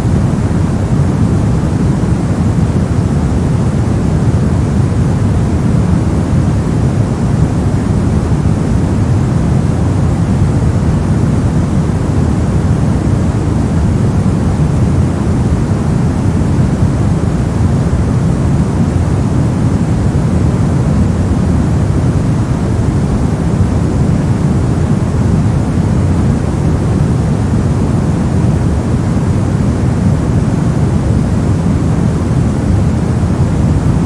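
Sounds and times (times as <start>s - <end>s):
deep white noise: 0.0s - 34.0s.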